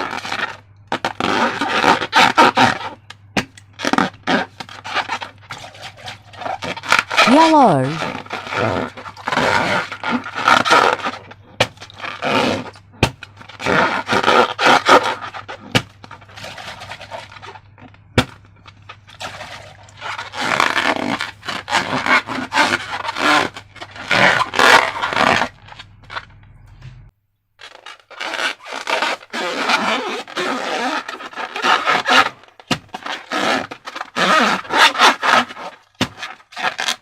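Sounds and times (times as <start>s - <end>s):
hands scraping balloon and slime: 0.0s - 37.0s.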